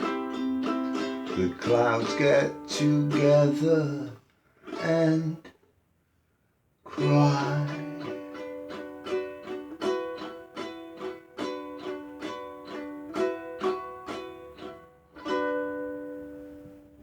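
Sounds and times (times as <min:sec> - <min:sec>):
strummed acoustic string chords: 0:00.0 - 0:05.6, 0:06.9 - 0:16.5.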